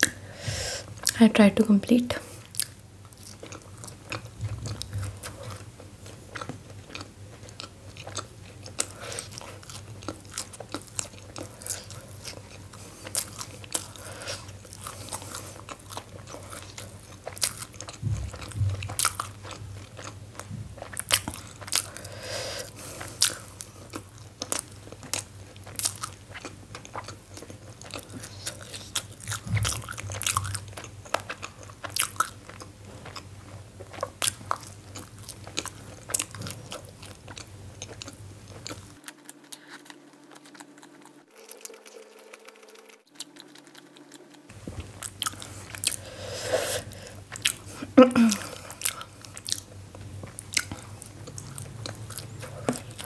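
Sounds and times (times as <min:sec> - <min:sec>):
steady low hum: 0:00.0 - 0:25.6, 0:26.2 - 0:53.0
close chewing and mouth sounds: 0:00.0 - 0:53.0.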